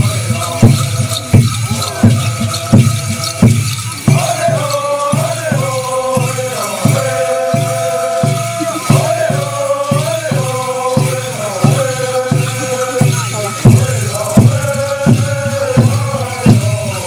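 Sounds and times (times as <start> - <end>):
group chanting in unison: 0.0 - 17.0
shaken rattles: 0.0 - 17.0
steady low drum beat: 0.0 - 17.0.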